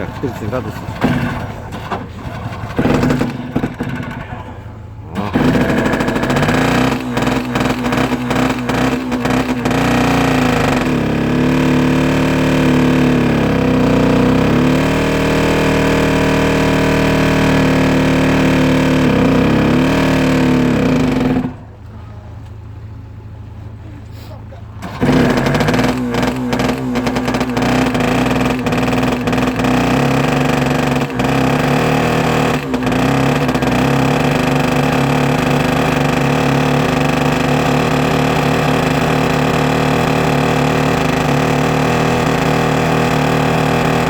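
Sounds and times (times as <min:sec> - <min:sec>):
diesel engine cranking and running: 0:00.0 - 0:44.0.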